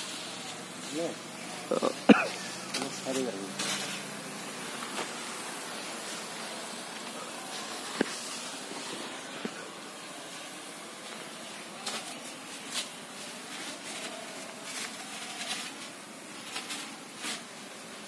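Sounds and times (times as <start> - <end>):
leaves rustling: 0.0 - 18.0
steady hiss: 0.0 - 18.0.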